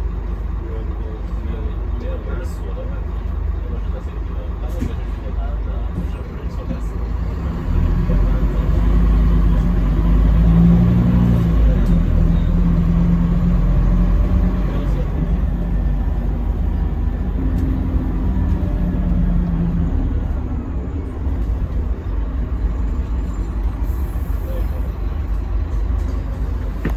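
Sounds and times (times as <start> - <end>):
bus diesel engine rumbling: 0.0 - 26.9.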